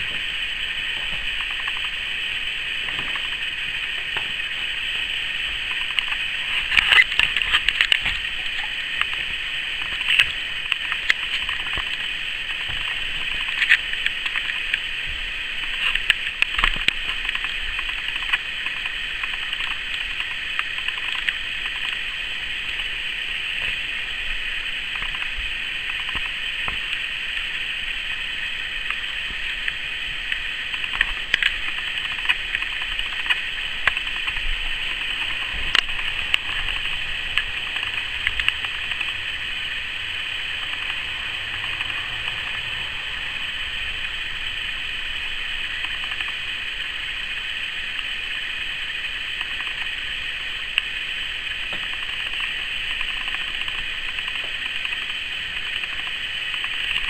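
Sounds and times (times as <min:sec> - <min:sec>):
cicada chorus drone: 0:00.0 - 0:57.0.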